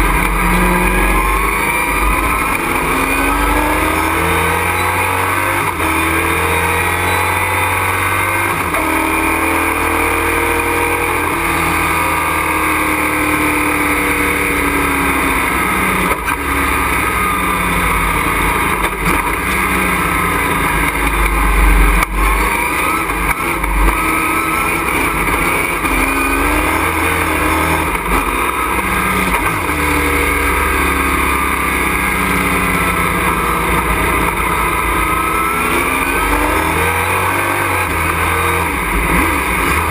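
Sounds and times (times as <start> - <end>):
racing truck engine revving: 0.0 - 39.9.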